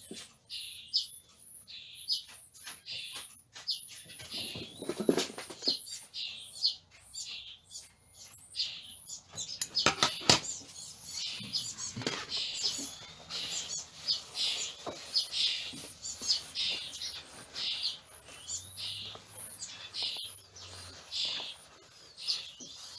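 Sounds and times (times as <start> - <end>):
baby birds chirping: 0.0 - 22.9.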